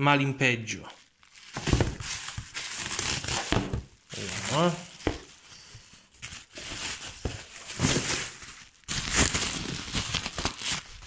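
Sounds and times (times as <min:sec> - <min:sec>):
bubble wrap crinkling: 0:00.8 - 0:11.0.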